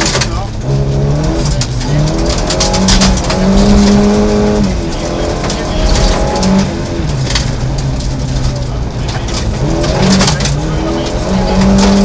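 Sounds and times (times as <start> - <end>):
gravel crackling against car: 0.0 - 12.0
rally car engine revving: 0.0 - 12.0.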